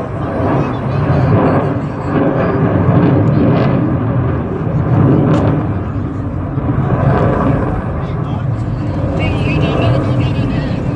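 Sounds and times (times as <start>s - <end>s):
jet engines roaring in flight: 0.0s - 10.9s.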